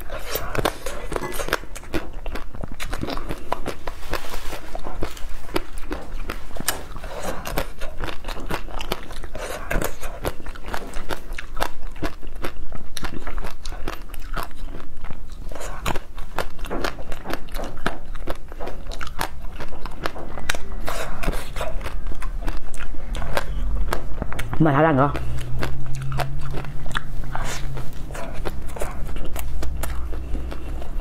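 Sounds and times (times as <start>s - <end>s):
person biting and chewing: 0.0s - 31.0s
mouth clicks and smacks: 4.7s - 31.0s.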